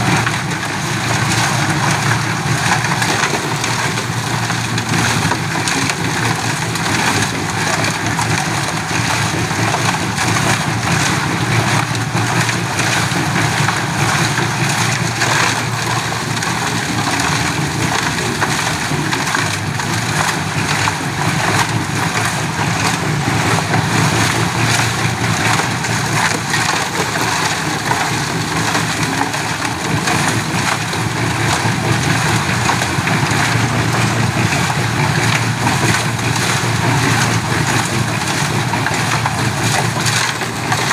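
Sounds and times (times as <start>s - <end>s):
concrete mixer engine running: 0.0s - 40.9s
mixer drum churning concrete: 0.0s - 40.9s.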